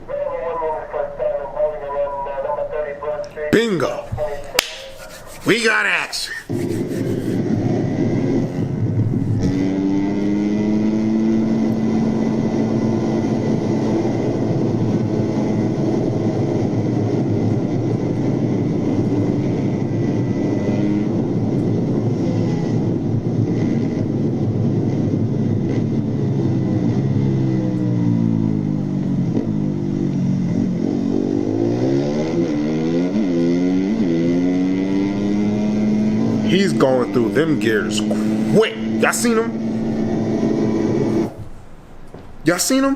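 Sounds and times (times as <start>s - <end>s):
motorcycle engine revving: 6.3s - 42.2s.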